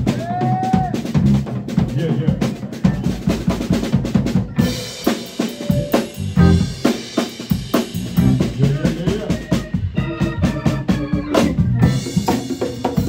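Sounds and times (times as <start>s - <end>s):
drum kit beat: 0.0s - 13.0s
live band playing: 0.0s - 13.0s.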